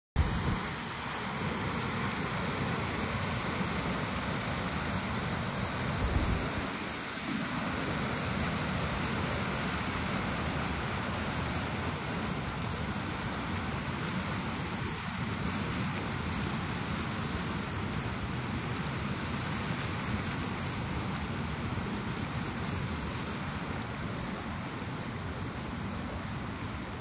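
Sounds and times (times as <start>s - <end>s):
mountain river rushing: 0.2s - 27.0s.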